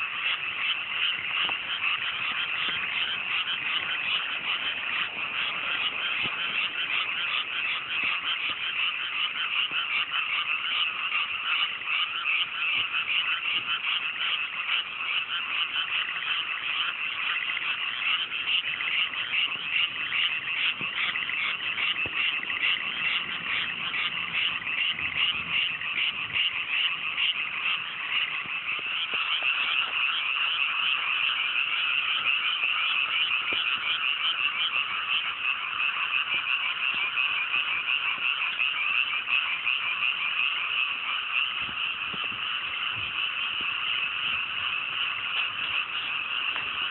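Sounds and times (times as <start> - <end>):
frogs croaking chorus: 0.0 - 46.9.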